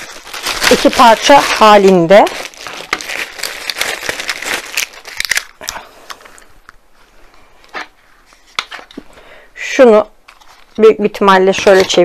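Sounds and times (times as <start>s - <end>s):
plastic wrapping crinkling: 0.0s - 9.2s, 10.2s - 12.0s.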